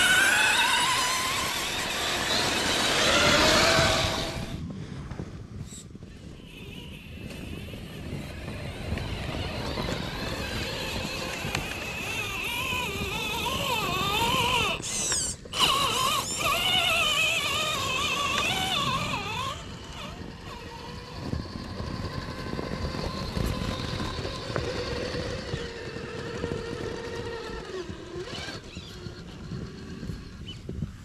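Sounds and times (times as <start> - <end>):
electric motors whining: 0.0 - 4.6, 6.1 - 31.0.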